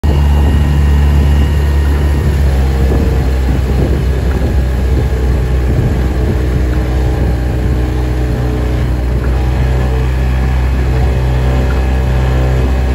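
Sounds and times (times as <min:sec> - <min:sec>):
motorboat engine droning: 0:00.0 - 0:12.9.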